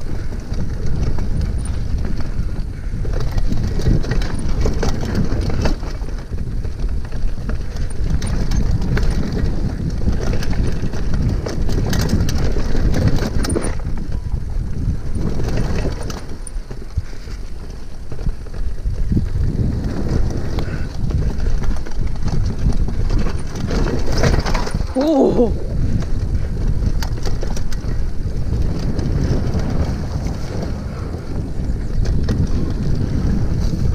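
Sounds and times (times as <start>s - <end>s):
bike rattling over bumps: 0.0s - 33.9s
bike tyres on dirt and stones: 0.0s - 33.9s
wind on microphone: 0.0s - 33.9s.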